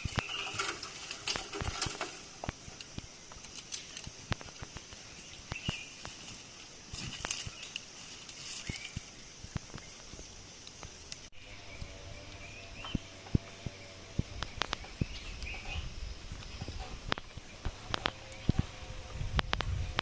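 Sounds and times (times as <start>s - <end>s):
bird chirps: 0.0s - 4.1s, 4.9s - 6.2s, 7.3s - 19.2s
clicks and crackles: 0.0s - 20.0s.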